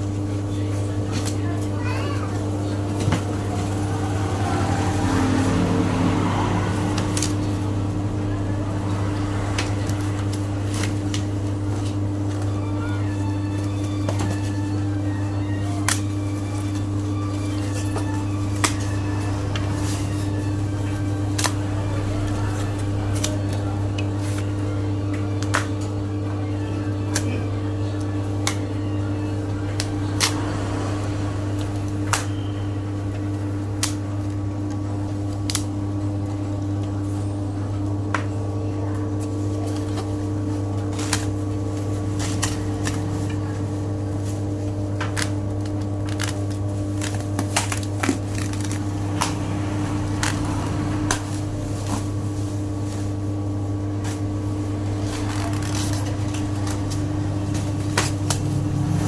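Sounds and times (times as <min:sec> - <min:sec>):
electric motor hum: 0:00.0 - 0:59.0.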